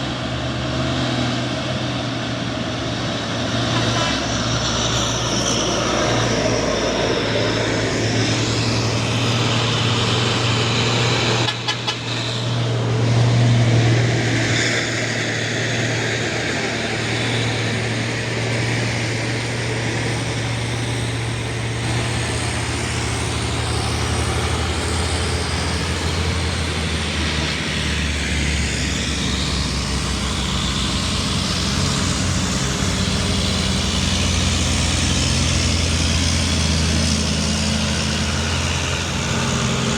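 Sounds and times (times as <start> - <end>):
truck engines running: 0.0 - 39.9.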